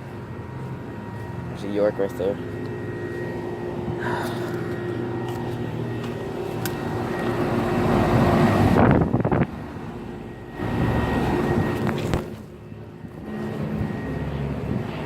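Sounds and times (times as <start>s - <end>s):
air-conditioner units humming: 0.0s - 15.0s.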